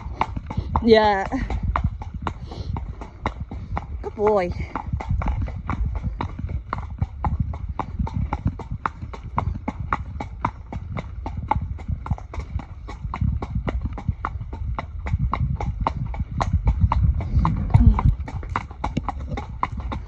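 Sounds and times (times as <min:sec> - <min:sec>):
horse hooves on pavement: 0:00.0 - 0:20.0.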